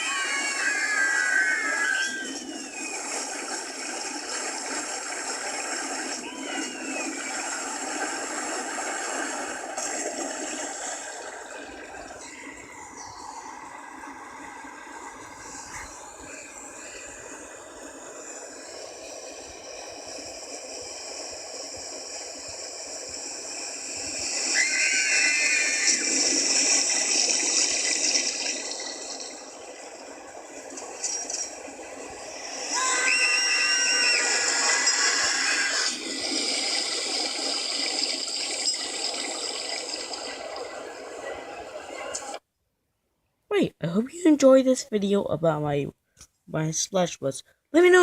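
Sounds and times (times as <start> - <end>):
rushing water: 0.0 - 42.4.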